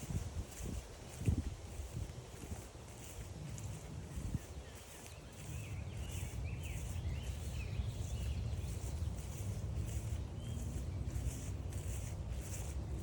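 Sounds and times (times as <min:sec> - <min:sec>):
footsteps crunching on a trail: 0:00.0 - 0:13.0
songbird chirping: 0:00.0 - 0:13.0
wind rumble on microphone: 0:00.0 - 0:13.0.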